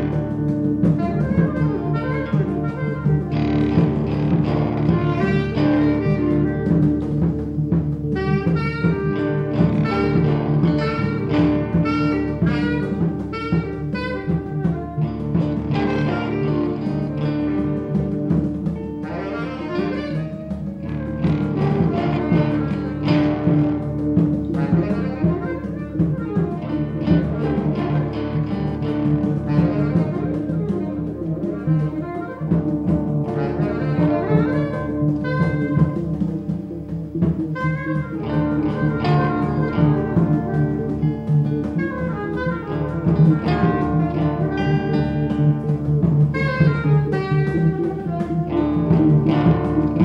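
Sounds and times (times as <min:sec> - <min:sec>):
experimental jazz band: 0:00.0 - 0:50.0
held horn-like tones: 0:00.0 - 0:50.0.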